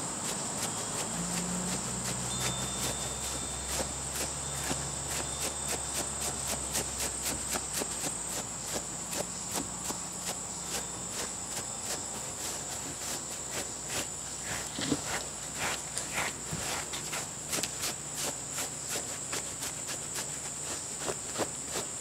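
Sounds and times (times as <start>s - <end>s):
rubber brush stroking dog's coat: 0.0s - 22.0s
steady high hiss: 0.0s - 22.0s.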